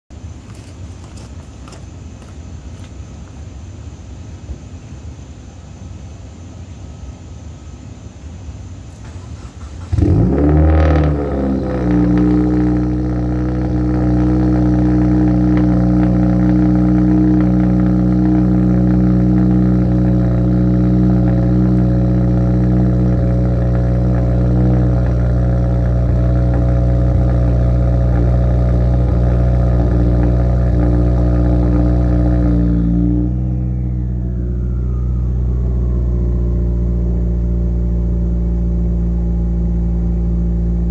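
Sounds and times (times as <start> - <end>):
faint whine: 0.1 - 40.9
car engine cold idle: 3.6 - 40.9.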